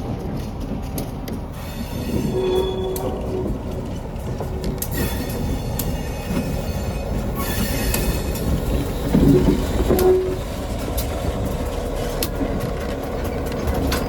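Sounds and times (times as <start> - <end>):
freight train wheels rumbling: 0.0 - 14.0
train clicks: 0.0 - 14.0.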